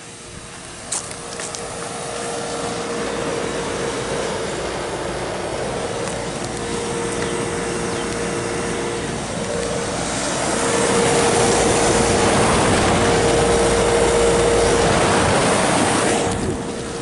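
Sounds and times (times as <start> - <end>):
compressor hum: 0.0 - 17.0
fan air rushing: 0.0 - 17.0.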